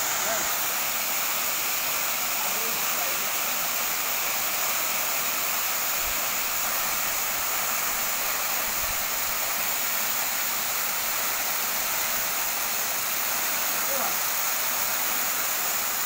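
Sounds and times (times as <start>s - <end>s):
waterfall rushing into pool: 0.0s - 16.0s.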